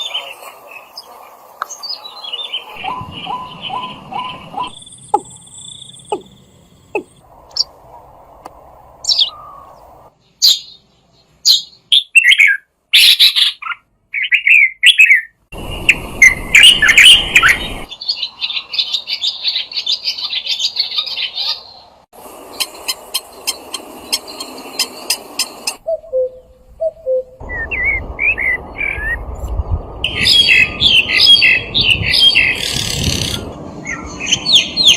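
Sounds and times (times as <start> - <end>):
songbirds chirping and singing: 0.0 - 8.0, 9.0 - 29.4, 30.0 - 34.9.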